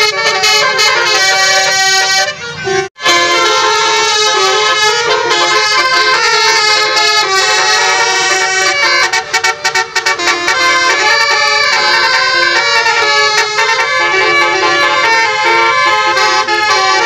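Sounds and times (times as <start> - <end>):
musical air horn melody: 0.0 - 17.0.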